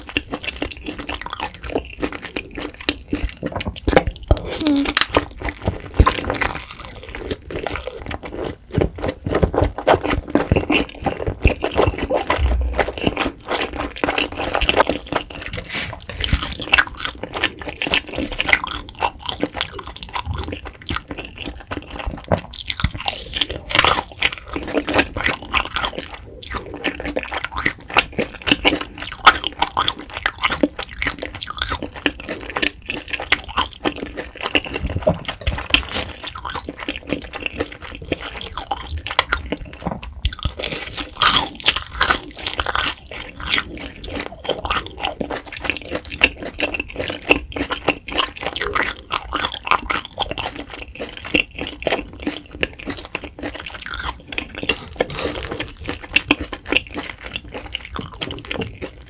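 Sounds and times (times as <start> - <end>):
wet chewing of noodles: 0.0 - 59.0.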